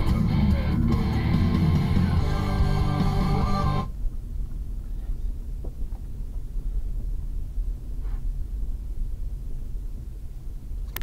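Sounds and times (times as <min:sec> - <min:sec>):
car driving on snow rumble: 0:00.0 - 0:11.0.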